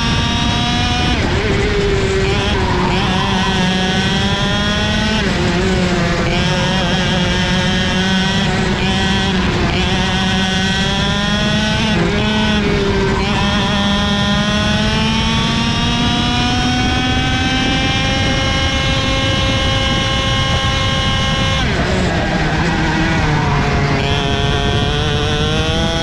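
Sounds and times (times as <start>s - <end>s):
kart engine accelerating: 0.0s - 26.0s.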